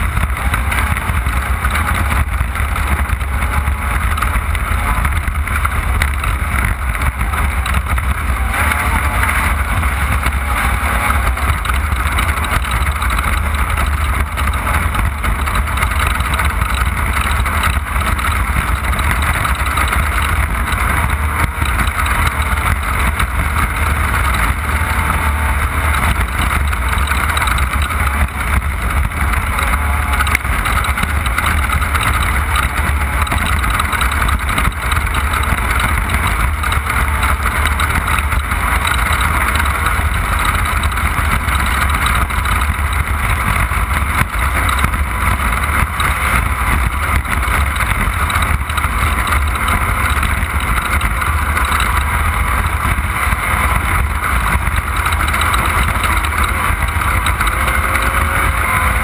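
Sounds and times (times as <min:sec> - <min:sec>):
race car engine at speed: 0:00.0 - 0:59.0
tyres on rough road: 0:00.0 - 0:59.0.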